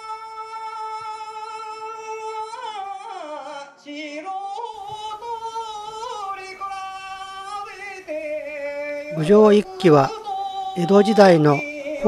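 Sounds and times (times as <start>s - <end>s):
person singing a slow chant: 0.0s - 12.0s.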